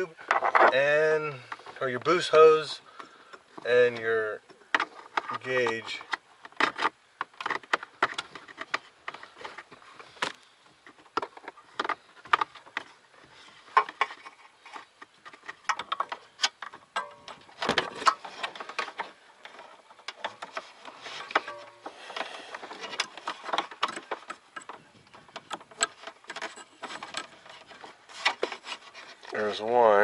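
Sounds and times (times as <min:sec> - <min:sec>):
clicks taps and rustling of hands: 0:02.9 - 0:29.5.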